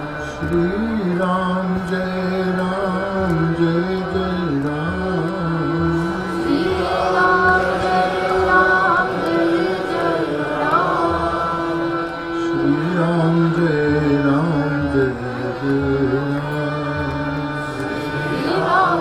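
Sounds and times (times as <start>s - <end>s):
harmonium chords: 0.0s - 19.0s.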